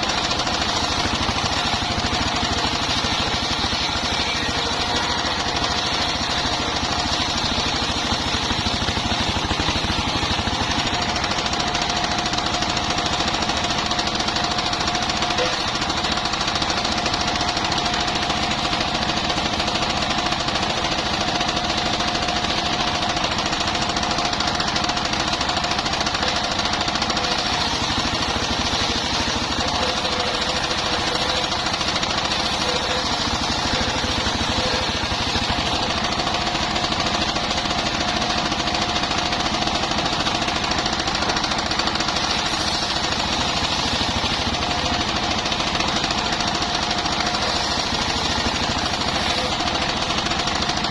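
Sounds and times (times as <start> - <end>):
sawmill blade sawing timber: 0.0 - 50.9.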